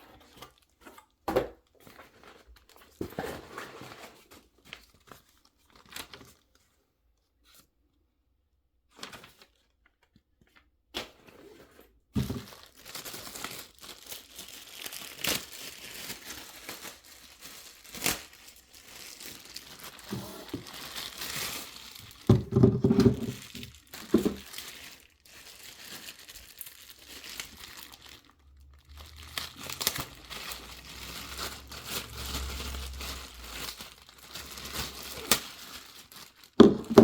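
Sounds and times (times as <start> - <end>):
wrapping crinkling and tearing: 1.8 - 6.6, 8.9 - 10.1, 12.2 - 37.0.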